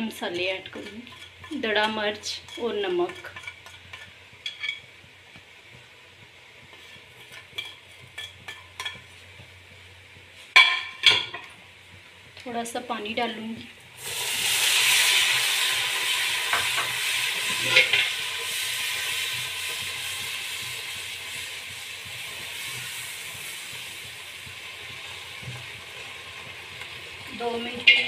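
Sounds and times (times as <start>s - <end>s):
water sizzling in hot oil: 0.0s - 28.0s.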